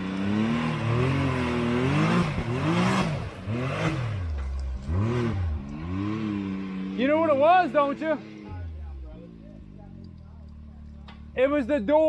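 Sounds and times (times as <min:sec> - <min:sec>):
utility vehicle engine revving: 0:00.0 - 0:12.0.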